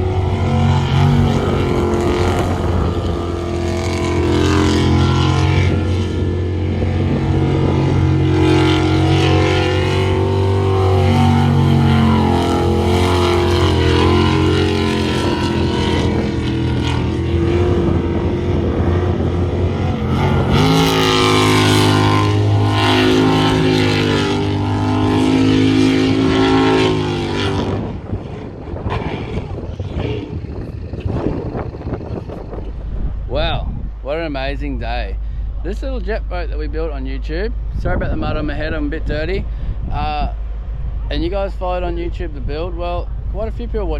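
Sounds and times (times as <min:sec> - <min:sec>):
boat engine at high revs: 0:00.0 - 0:43.9.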